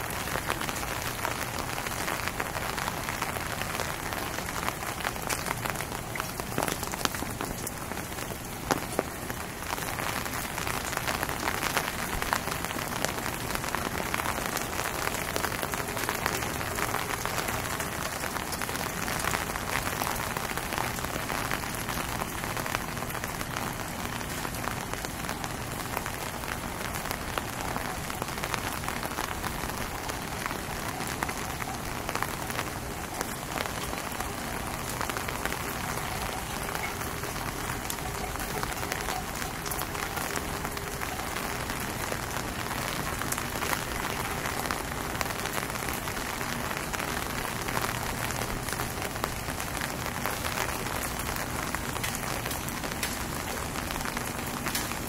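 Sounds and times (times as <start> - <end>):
raindrops hitting close by: 0.0 - 55.0
steady rain falling: 0.0 - 55.0.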